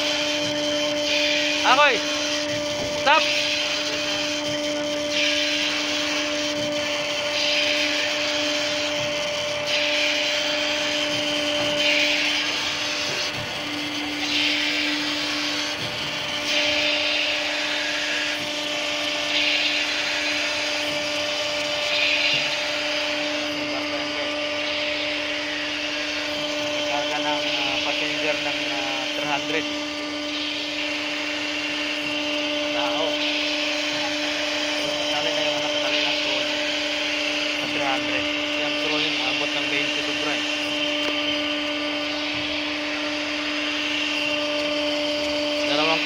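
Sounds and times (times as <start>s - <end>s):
rushing whir of winch: 0.0s - 46.0s
winch motor hum: 0.0s - 46.0s.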